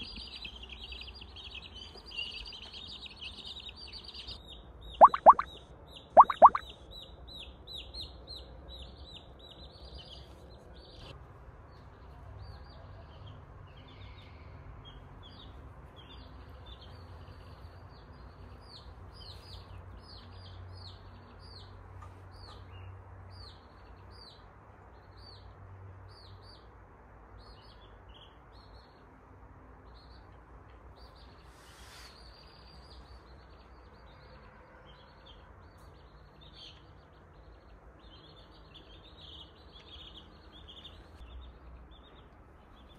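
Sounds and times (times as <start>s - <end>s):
baby chicks peeping: 0.0s - 29.1s, 29.7s - 42.9s.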